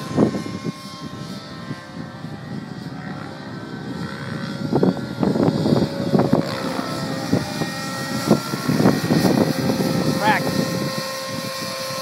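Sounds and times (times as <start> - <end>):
helicopter engine tone: 0.0 - 12.0
helicopter rotor noise: 0.0 - 12.0.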